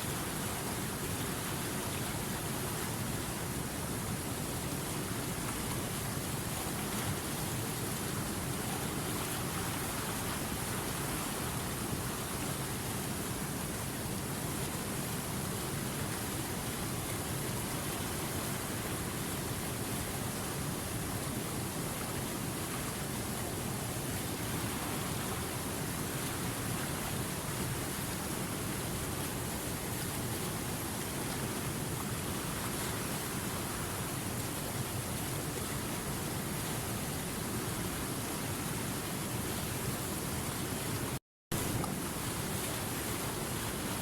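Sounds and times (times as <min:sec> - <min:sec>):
river rushing over rapids: 0:00.0 - 0:44.0.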